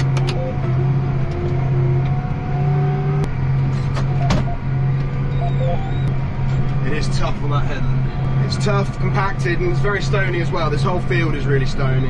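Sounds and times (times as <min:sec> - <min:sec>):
tractor diesel engine running: 0:00.0 - 0:02.6, 0:03.2 - 0:12.0.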